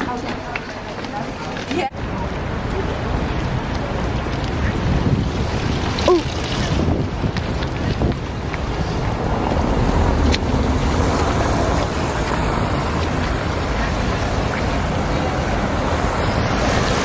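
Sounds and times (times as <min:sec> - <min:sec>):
wind blowing across microphone: 0:01.9 - 0:17.0.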